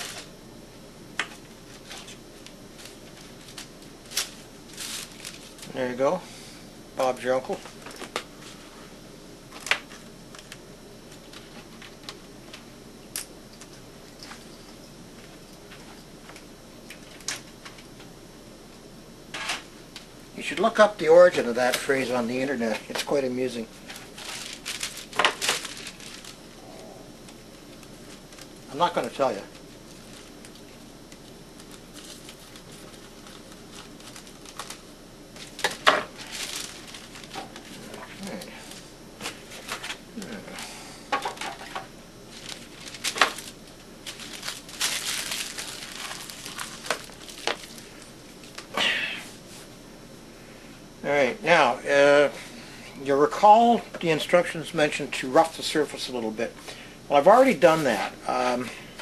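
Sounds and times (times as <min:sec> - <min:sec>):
low steady background noise: 0:00.0 - 0:59.0.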